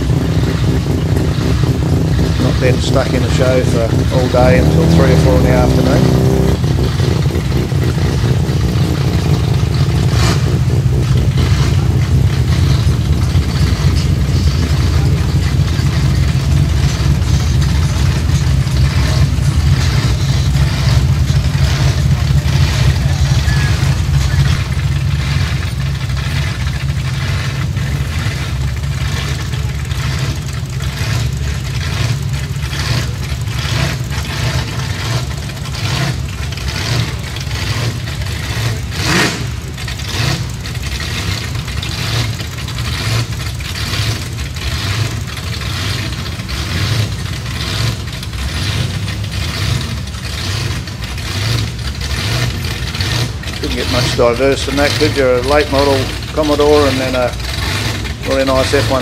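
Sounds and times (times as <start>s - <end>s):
car engines idling and burbling: 0.0s - 59.0s.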